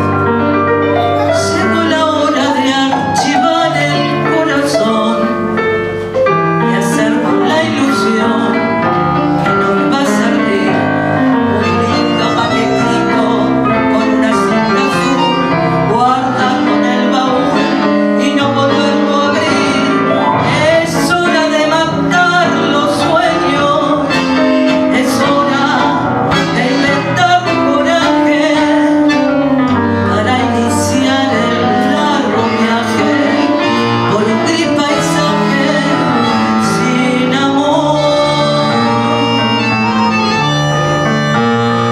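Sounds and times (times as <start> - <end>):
tango trio playing: 0.0 - 41.9.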